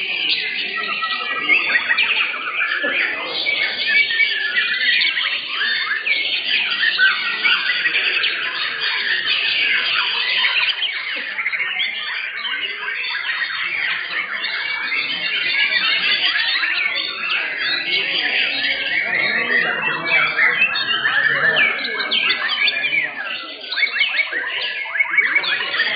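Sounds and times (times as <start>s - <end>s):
songbirds whistling and trilling: 0.0s - 25.9s.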